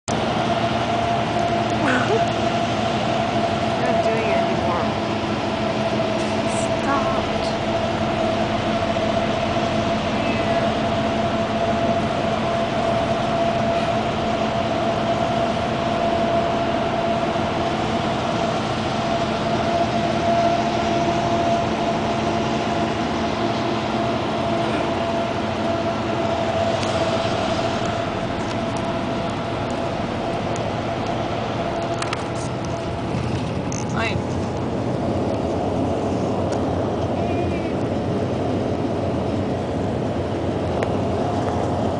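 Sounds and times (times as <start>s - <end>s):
bus cabin engine and road drone: 0.0s - 41.9s
constant low hum: 0.1s - 41.9s.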